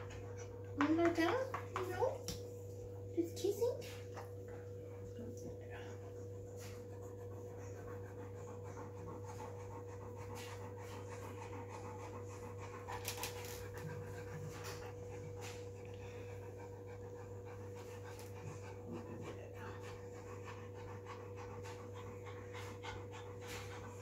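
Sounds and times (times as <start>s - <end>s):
dog panting: 0.0s - 24.0s.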